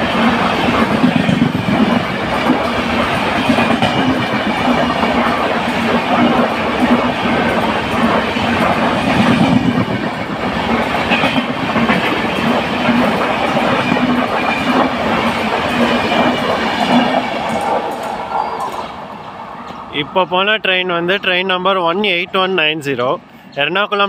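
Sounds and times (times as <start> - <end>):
passenger train rumbling past: 0.0 - 24.0.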